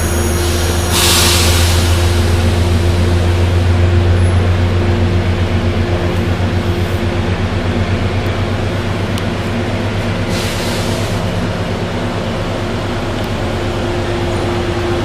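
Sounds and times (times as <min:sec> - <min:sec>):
diesel locomotive drone: 0:00.0 - 0:15.0
higher locomotive tone: 0:00.0 - 0:15.0.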